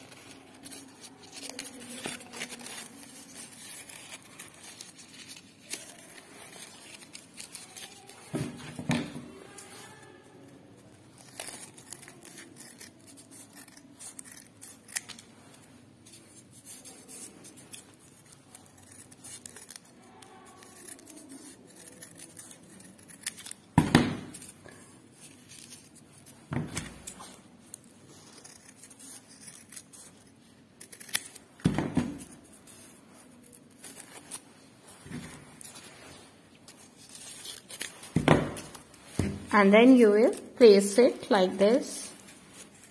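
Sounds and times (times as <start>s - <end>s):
scissors snipping paper: 0.0s - 34.5s, 36.7s - 41.9s
paper rustling: 0.0s - 42.9s.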